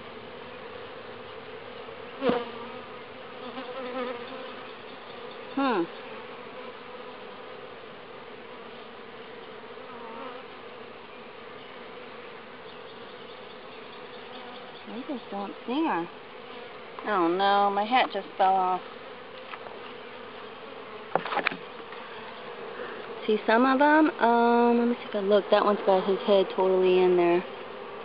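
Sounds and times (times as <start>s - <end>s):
bee colony humming: 0.0s - 28.0s
bees buzzing past close: 0.0s - 28.0s.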